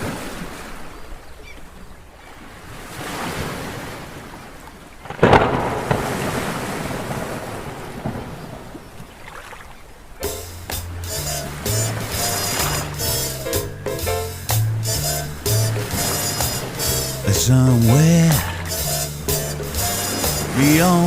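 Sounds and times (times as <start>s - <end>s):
sea waves crashing: 0.0s - 21.0s
wind: 0.0s - 21.0s.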